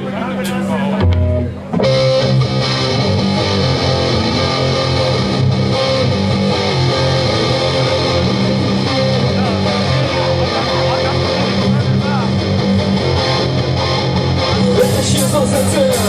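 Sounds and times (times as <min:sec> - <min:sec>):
bass line: 0:00.0 - 0:16.0
guitars strumming: 0:00.0 - 0:16.0.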